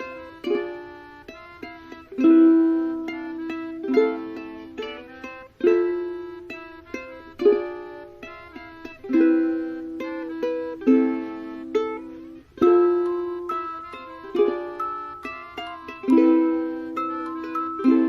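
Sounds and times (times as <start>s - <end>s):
plucked instrumental music: 0.0s - 18.0s.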